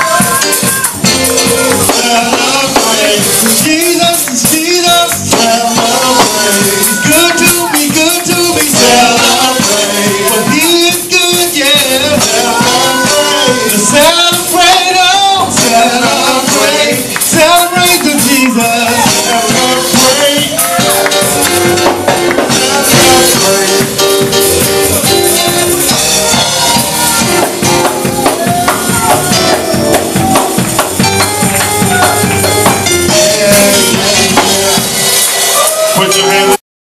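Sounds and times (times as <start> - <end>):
drums beating: 0.0 - 36.6
held chords: 0.0 - 36.6
people singing and shouting: 0.0 - 36.6.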